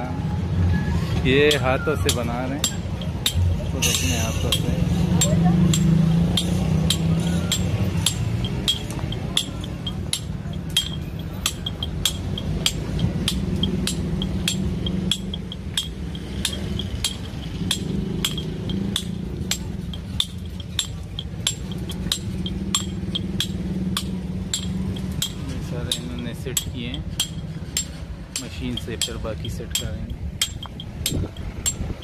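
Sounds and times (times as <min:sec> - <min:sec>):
hammer striking chisel on stone: 0:01.5 - 0:32.0.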